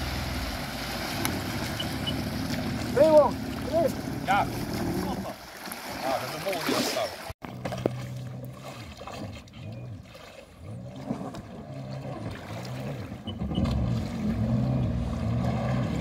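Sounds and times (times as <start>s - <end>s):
jet ski engine revving: 0.0s - 5.4s, 7.5s - 16.0s.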